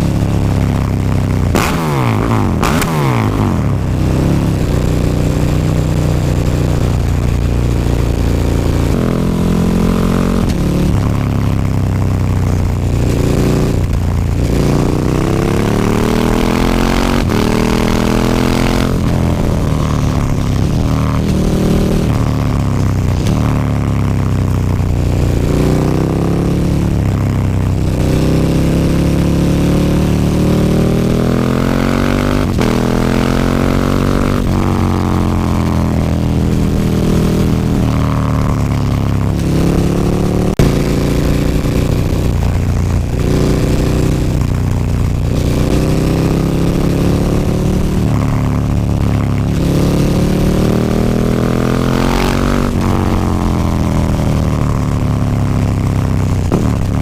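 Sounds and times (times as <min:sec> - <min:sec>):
exhaust crack: 0:00.0 - 0:09.2, 0:10.3 - 0:25.8, 0:32.4 - 0:57.0
motorcycle engine revving: 0:00.0 - 0:57.0.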